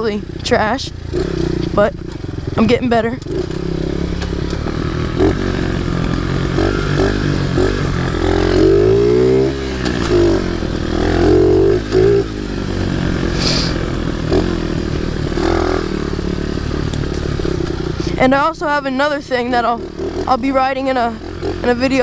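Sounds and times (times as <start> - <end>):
small motorbike engine revving: 0.2 - 22.0.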